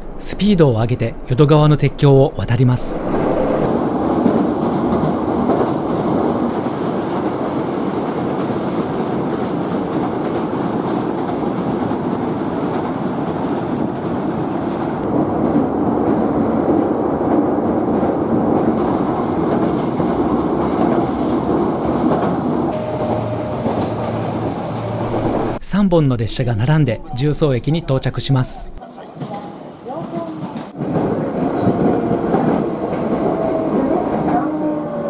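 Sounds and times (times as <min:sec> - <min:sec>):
electric train running over steel bridge: 0:00.0 - 0:25.6, 0:28.4 - 0:35.0.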